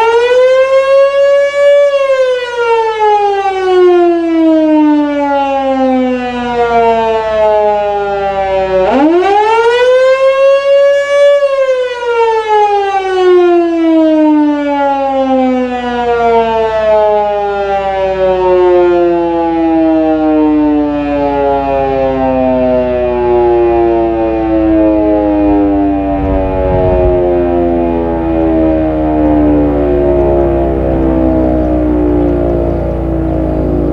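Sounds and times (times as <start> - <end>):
fire siren winding: 0.0 - 33.9.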